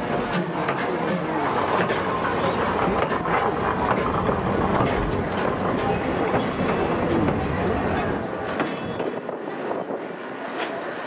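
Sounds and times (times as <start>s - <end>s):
steam locomotive moving: 0.0s - 11.0s
wheel clicks over rail joints: 0.2s - 9.3s.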